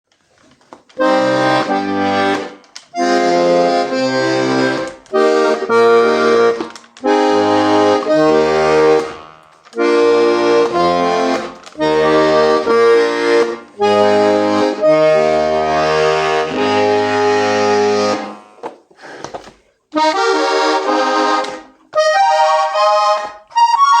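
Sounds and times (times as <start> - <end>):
button accordion playing chords: 1.0 - 18.6, 19.9 - 24.0.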